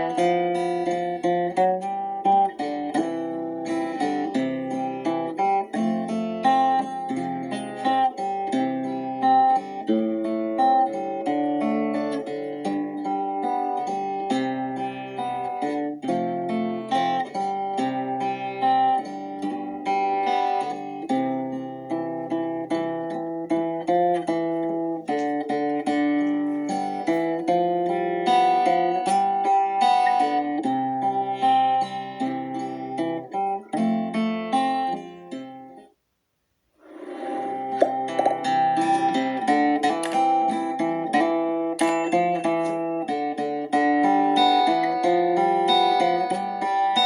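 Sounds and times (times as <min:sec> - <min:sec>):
acoustic guitar music: 0:00.0 - 0:47.0.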